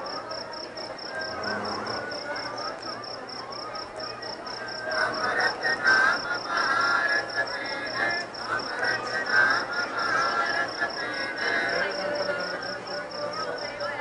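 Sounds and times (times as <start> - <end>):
voices in background: 0.0 - 14.0.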